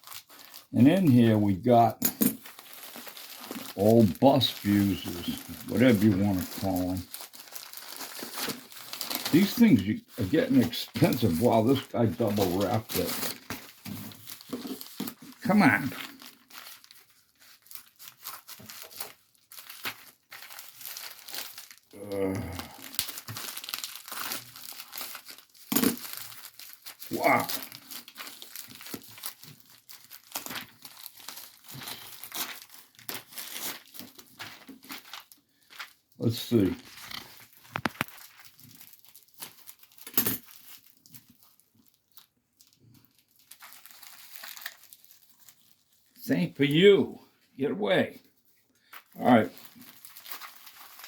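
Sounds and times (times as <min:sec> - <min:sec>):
packaging crinkling and tearing: 0:00.0 - 0:46.8, 0:48.2 - 0:51.0
wrapping rustling: 0:00.0 - 0:46.8, 0:48.1 - 0:51.0.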